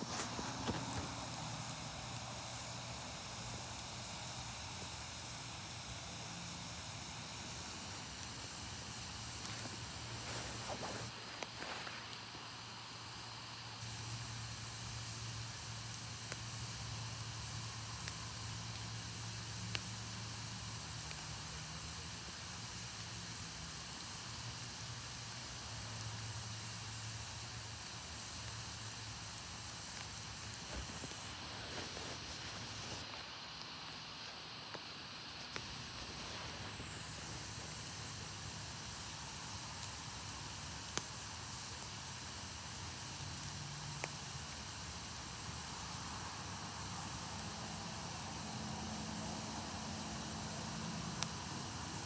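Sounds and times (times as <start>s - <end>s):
faint fire crackles: 0.0s - 52.0s
wood fire hissing: 0.0s - 52.0s.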